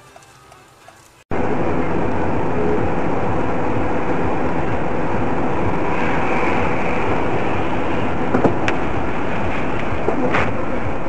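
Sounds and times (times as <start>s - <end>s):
car driving on highway: 1.3s - 11.0s.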